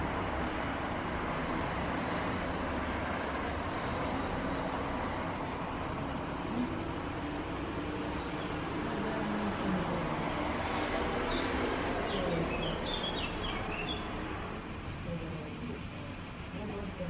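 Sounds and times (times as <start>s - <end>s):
insects droning: 0.0s - 17.0s
steady background hiss: 0.0s - 17.0s.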